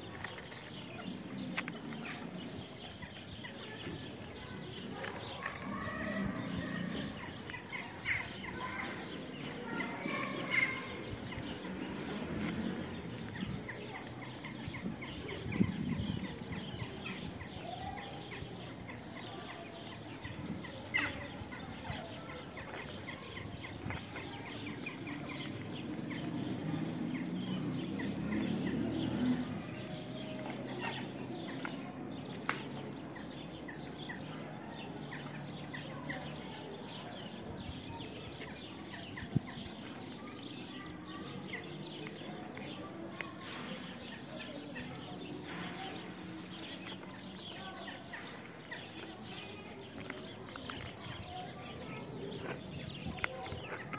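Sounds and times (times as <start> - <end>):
outdoor background noise: 0.0 - 53.9
small birds chirping: 0.0 - 53.9.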